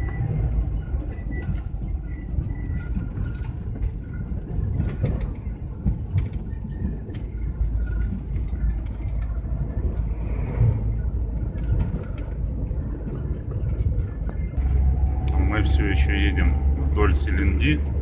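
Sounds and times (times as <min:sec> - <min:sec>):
engine and road rumble: 0:00.0 - 0:18.0
faint whines: 0:00.0 - 0:18.0.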